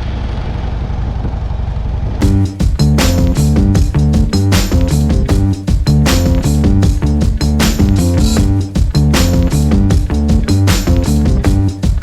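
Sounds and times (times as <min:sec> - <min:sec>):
motorcycle engine rumbling: 0:02.2 - 0:12.0
music with guitar and drums: 0:02.2 - 0:12.0.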